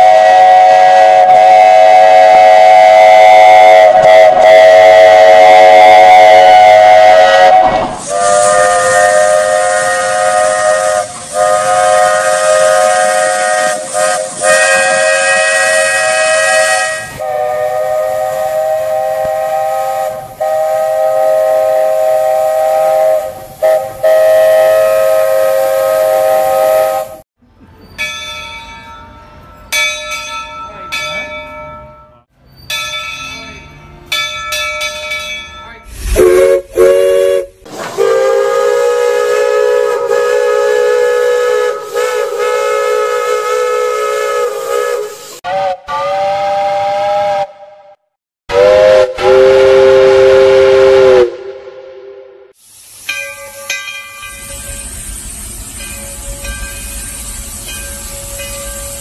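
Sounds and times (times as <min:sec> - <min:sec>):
steam hissing: 0:00.0 - 0:27.2, 0:35.8 - 0:47.2, 0:48.5 - 0:59.0
steam locomotive chime whistles: 0:00.0 - 0:59.0.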